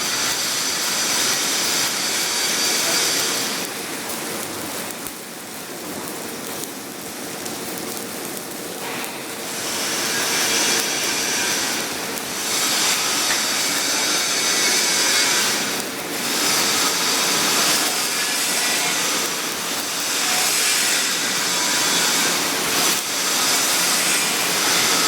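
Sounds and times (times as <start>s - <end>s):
arc welding crackling hiss: 0.0s - 25.0s.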